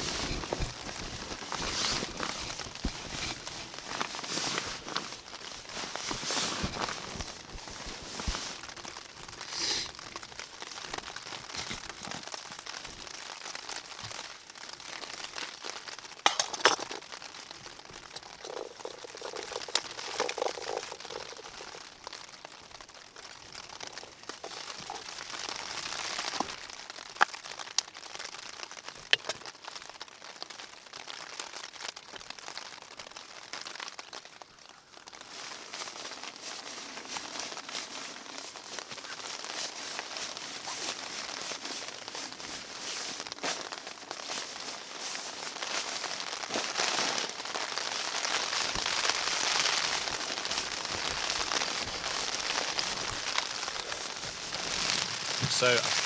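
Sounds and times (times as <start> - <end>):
rain pattering on tent fabric: 0.0 - 56.0
rustling and crinkling of gear: 0.0 - 56.0.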